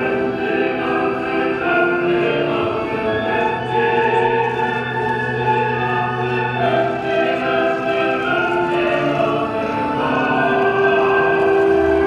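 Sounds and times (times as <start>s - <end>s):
operatic singing music: 0.0s - 12.0s.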